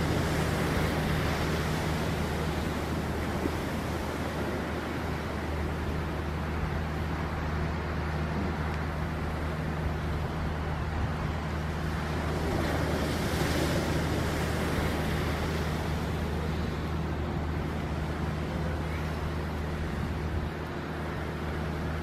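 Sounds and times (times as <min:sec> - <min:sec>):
steady low hum: 0:00.0 - 0:22.0
wave breaking on beach: 0:00.0 - 0:22.0.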